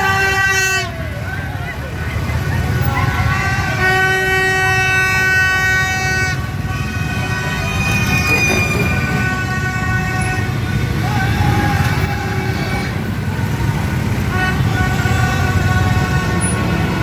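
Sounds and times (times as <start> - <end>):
crowd voices: 0.0 - 17.0
horns tooting: 0.0 - 17.0
street traffic rumble: 0.0 - 17.0.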